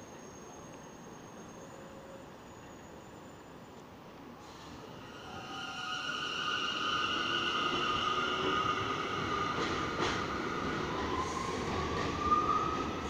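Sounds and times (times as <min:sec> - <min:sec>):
subway train propulsion whine: 0:00.0 - 0:13.0.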